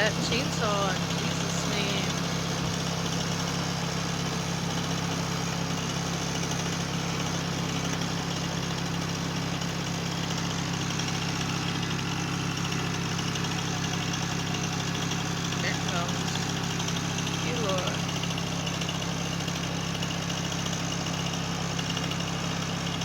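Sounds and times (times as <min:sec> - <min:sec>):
chainsaw engine running: 0:00.0 - 0:23.0.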